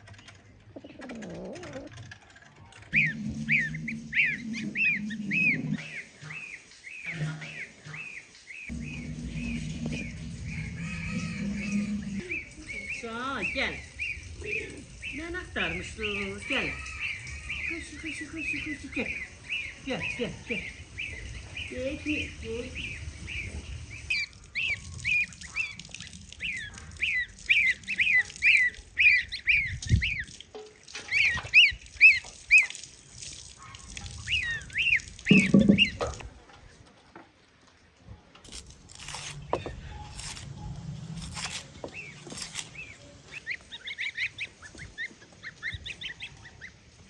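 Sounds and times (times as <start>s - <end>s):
goslings peeping: 2.9s - 30.4s, 31.0s - 32.8s, 33.6s - 36.4s, 39.0s - 47.0s.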